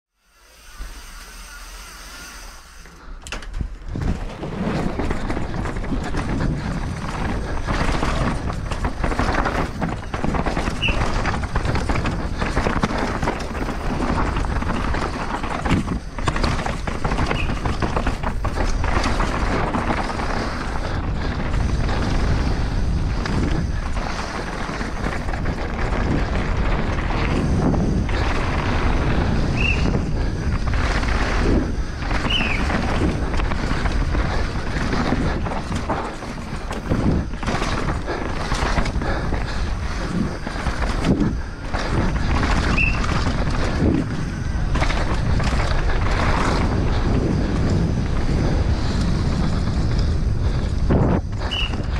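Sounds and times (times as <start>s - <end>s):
bike tyres rumbling over dirt: 2.3s - 51.9s
bike knocks and rattles: 3.0s - 51.9s
wind on microphone: 3.8s - 51.9s.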